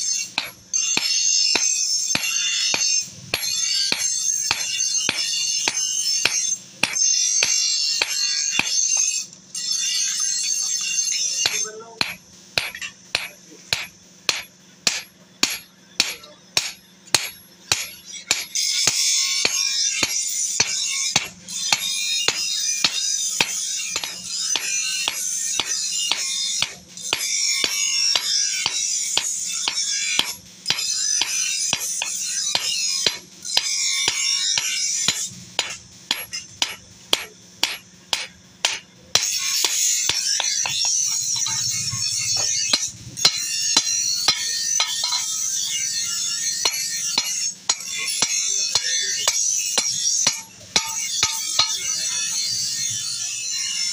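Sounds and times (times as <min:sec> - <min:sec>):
hammer striking metal on anvil: 0:00.0 - 0:52.8.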